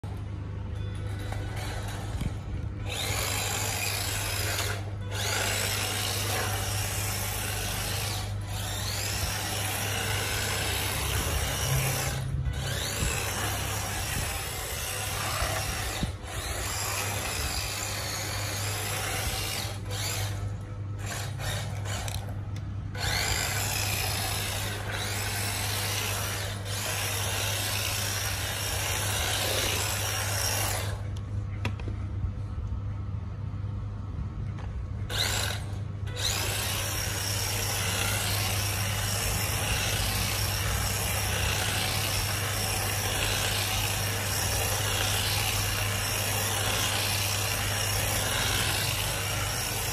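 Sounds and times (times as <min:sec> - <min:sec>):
toy car motor whining: 0:00.8 - 0:31.1, 0:35.0 - 0:49.9.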